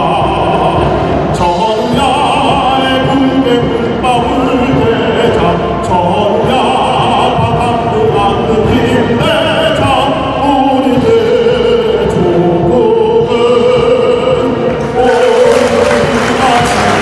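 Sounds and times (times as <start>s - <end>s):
man singing operatically: 0.0s - 17.0s
military band playing: 0.0s - 17.0s.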